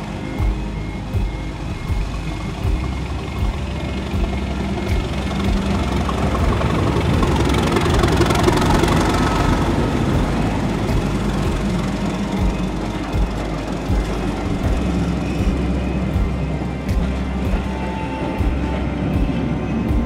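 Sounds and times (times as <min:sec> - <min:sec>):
locomotive engine rumble: 0:00.0 - 0:20.0.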